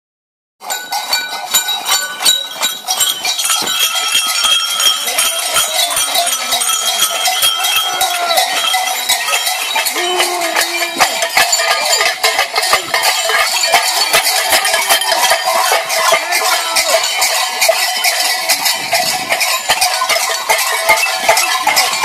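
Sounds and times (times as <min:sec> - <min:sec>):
cowbells clanging: 0:00.6 - 0:22.0.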